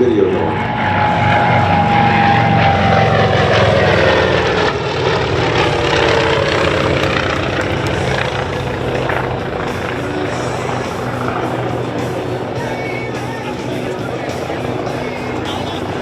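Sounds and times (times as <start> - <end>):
propeller plane passing low: 0.0 - 16.0.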